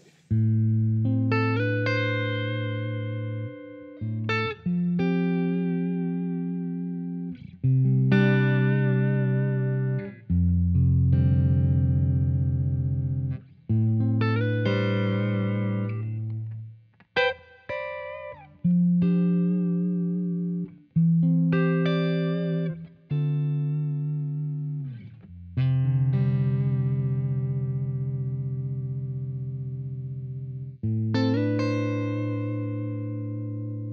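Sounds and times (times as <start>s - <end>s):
electric guitar chords and notes: 0.0s - 33.9s.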